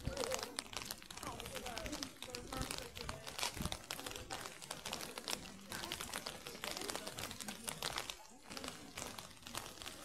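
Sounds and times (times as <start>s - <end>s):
crackling and rustling on microphone: 0.0s - 10.0s.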